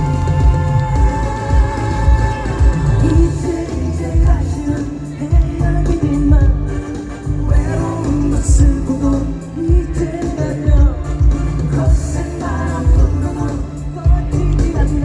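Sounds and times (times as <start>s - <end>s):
heavy bass line: 0.0s - 15.0s
person singing: 0.0s - 15.0s
pop-rock band playing: 0.0s - 15.0s.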